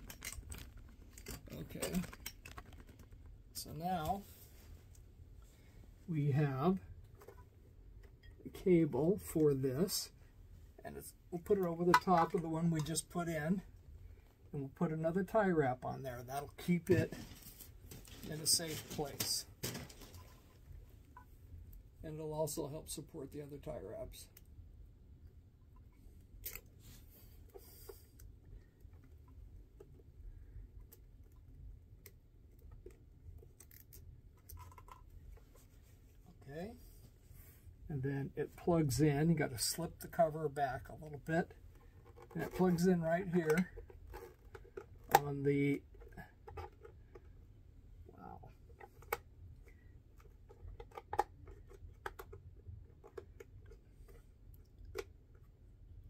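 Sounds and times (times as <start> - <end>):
rustling of cables: 0.0 - 22.0, 25.7 - 56.0.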